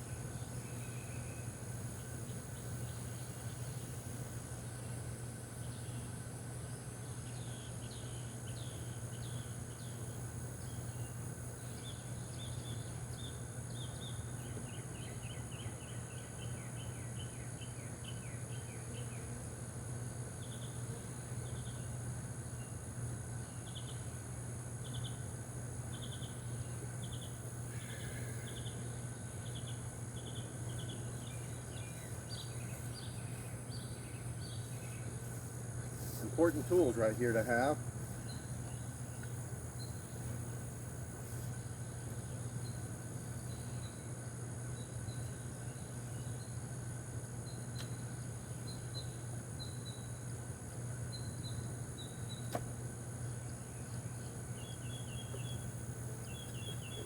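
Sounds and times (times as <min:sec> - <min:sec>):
insect drone: 0:00.0 - 0:57.0
steady low hum: 0:00.0 - 0:57.0.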